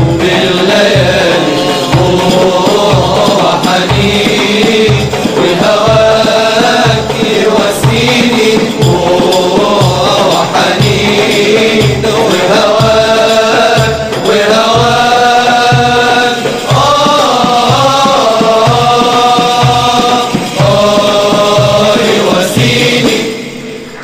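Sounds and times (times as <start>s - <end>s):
devotional chanting: 0.0s - 24.0s
steady drum beat: 0.0s - 24.0s.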